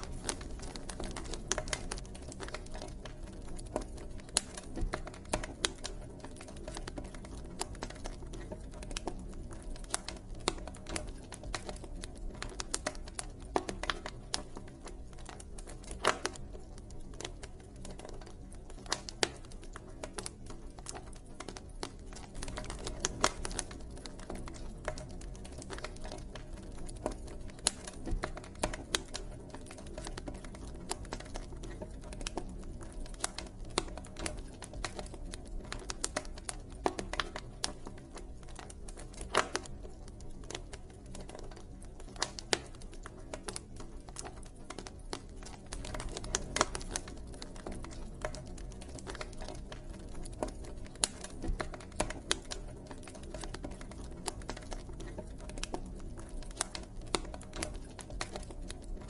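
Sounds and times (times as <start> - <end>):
campfire crackling and popping: 0.0 - 59.0
low rumble of flames: 0.0 - 59.0.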